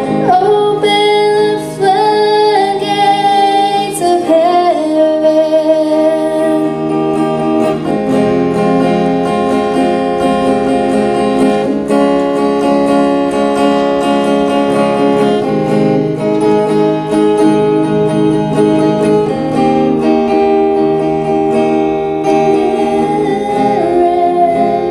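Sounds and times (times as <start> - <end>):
acoustic guitar strumming chords: 0.0 - 24.9.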